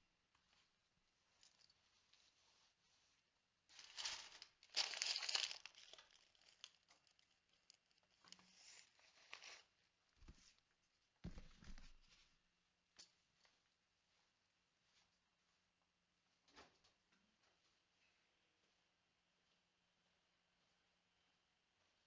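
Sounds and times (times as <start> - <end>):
faint rustling and crinkling: 0.1 - 22.0.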